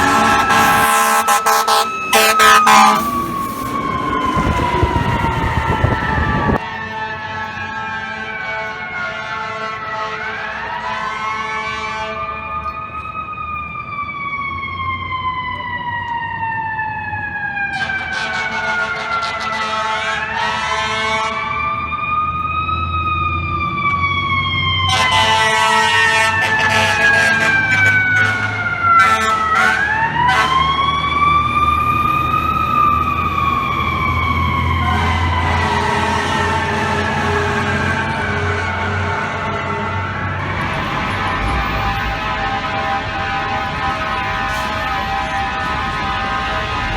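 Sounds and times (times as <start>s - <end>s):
fire engine siren wailing: 0.0s - 46.9s
truck engine rumble: 0.0s - 46.9s.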